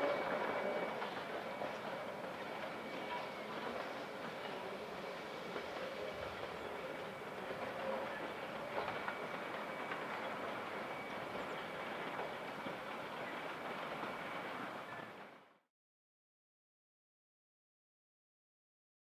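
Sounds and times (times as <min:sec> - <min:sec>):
train rolling along track: 0:00.0 - 0:15.6.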